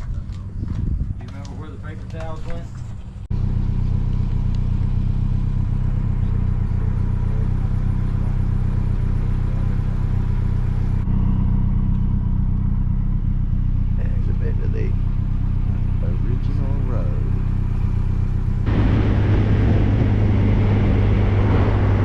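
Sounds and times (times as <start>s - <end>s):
road and wind noise: 0.0s - 22.0s
sports car engine drone: 0.0s - 22.0s.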